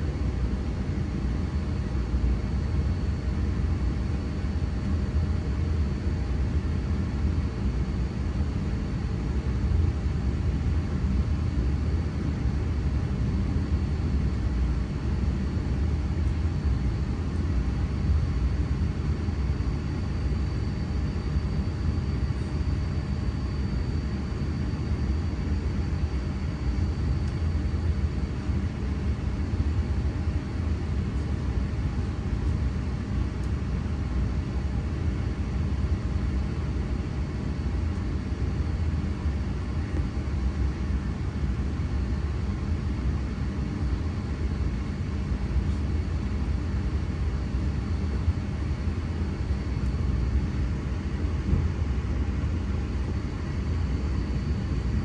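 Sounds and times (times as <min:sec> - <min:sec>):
faint high whine: 0:00.0 - 0:55.0.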